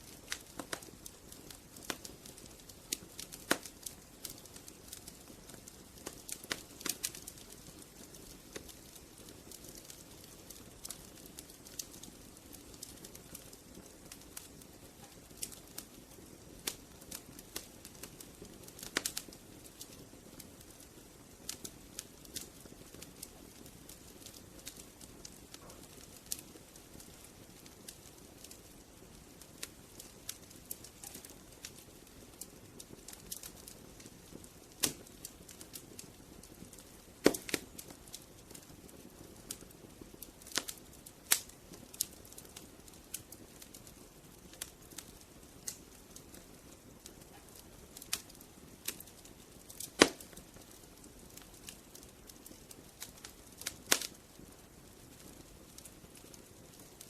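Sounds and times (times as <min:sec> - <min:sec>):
burning logs crackling and popping: 0:00.0 - 0:57.0
hiss of flames: 0:00.0 - 0:57.0.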